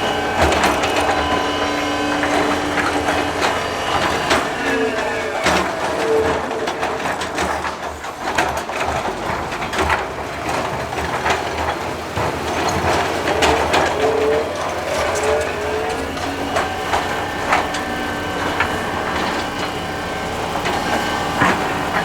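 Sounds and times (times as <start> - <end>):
machine whine: 0.0 - 8.6, 10.9 - 22.0
clatter of rock and metal: 0.0 - 22.0
diesel engine running: 0.0 - 22.0.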